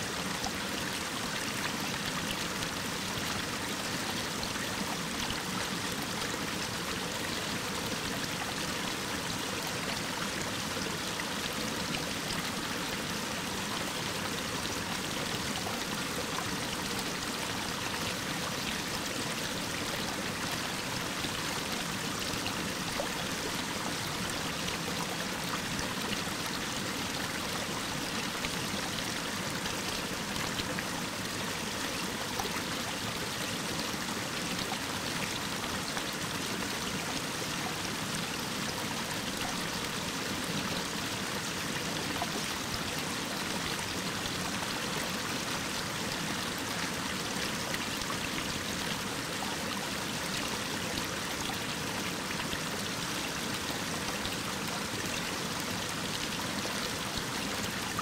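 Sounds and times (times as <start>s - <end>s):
waterfall pouring over rock: 0.0s - 58.0s.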